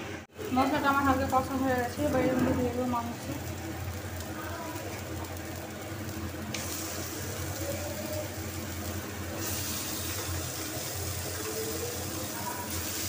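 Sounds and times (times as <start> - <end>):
chicken sizzling in hot oil: 0.4 - 13.0.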